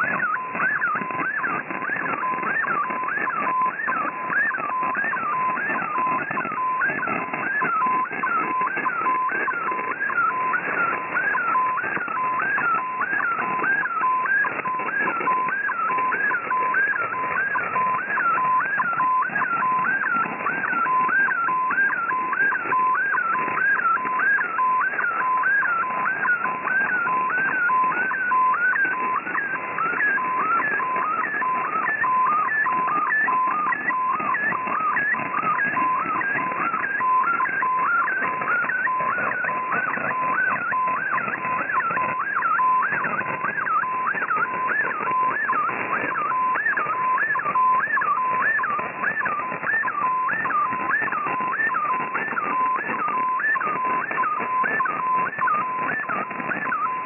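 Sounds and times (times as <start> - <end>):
radio hiss and static: 0.0 - 57.0
warbling sweeping radio tone: 0.0 - 57.0.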